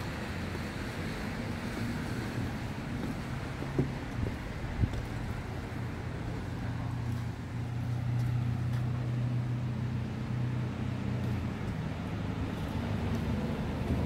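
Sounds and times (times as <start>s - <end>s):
low engine-like hum: 0.0s - 14.0s
outdoor background noise: 0.0s - 14.0s.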